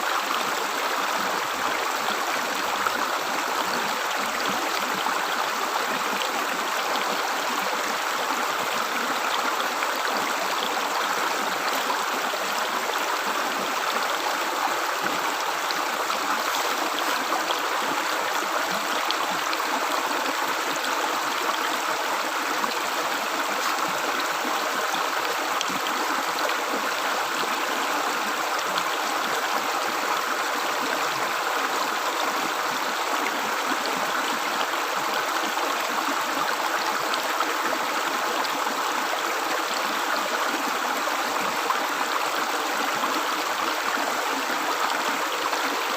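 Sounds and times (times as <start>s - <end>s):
river water gurgling: 0.0s - 45.9s.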